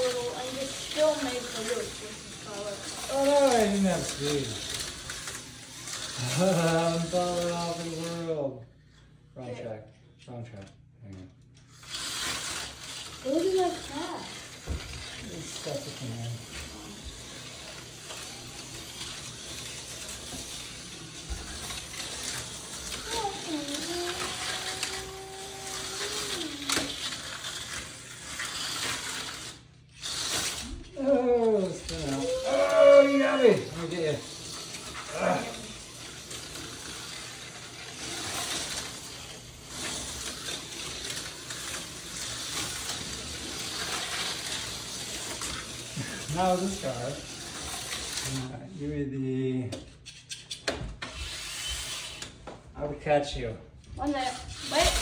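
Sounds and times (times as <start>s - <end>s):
slot cars whirring on track: 0.0s - 8.2s, 11.7s - 30.7s, 31.7s - 48.5s.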